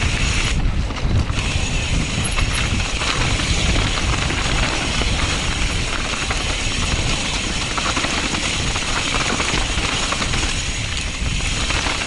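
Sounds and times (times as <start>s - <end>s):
bike rattling: 0.0s - 12.0s
wind buffeting microphone: 0.0s - 12.0s.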